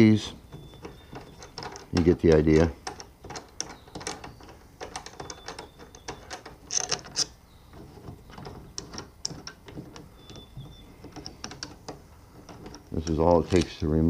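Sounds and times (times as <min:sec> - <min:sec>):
metal bolts clicking and rattling: 0:00.0 - 0:14.0.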